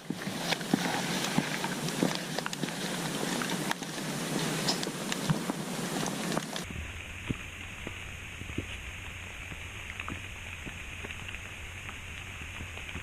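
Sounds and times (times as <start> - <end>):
raindrops tapping: 0.0 - 13.0
steady rain hiss: 0.0 - 13.0.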